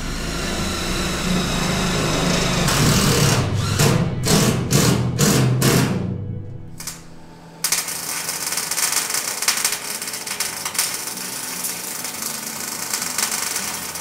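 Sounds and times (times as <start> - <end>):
welding arc crackling: 0.0 - 6.0, 6.7 - 14.0.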